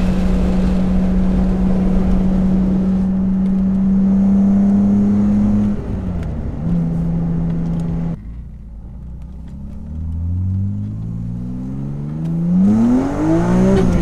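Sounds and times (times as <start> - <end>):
car engine while driving: 0.0 - 14.0
road rumble: 0.0 - 14.0.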